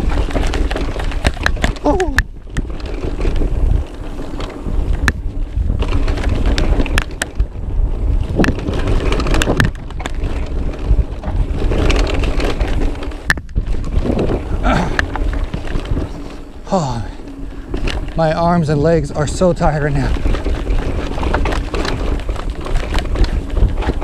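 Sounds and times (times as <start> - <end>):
bike rattling and knocking: 0.0 - 24.0
wind noise on microphone: 0.0 - 24.0.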